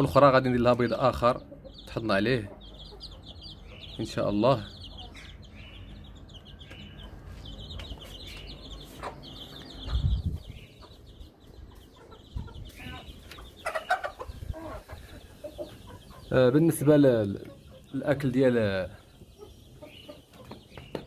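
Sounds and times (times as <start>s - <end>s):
chickens clucking: 0.0s - 21.0s
chicks peeping: 0.0s - 21.0s.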